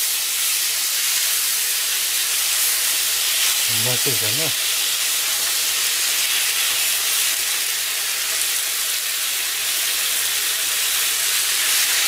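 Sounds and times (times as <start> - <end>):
meat and mushrooms sizzling: 0.0 - 12.0.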